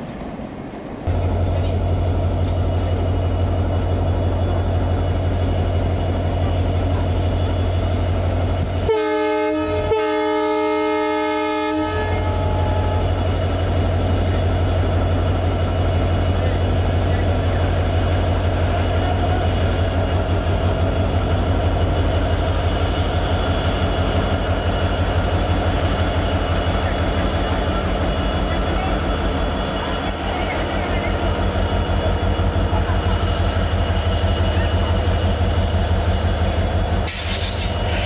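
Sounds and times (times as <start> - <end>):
diesel locomotive engine humming: 0.0 - 38.0.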